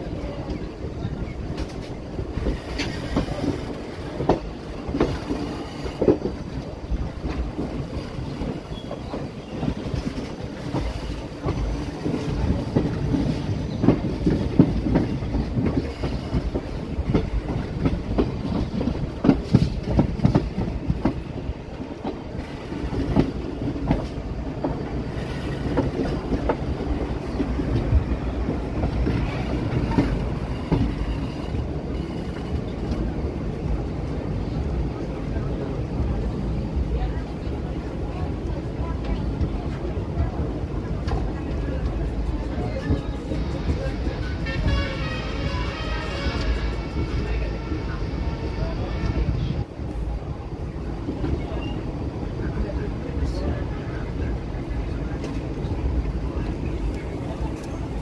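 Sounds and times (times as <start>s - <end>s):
train coach rumbling: 0.0s - 58.0s.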